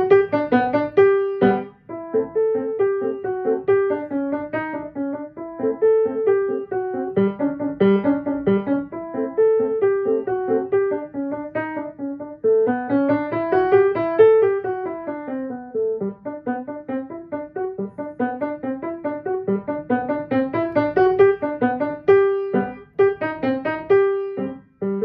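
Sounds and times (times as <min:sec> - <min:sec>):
lively piano piece: 0:00.0 - 0:25.0.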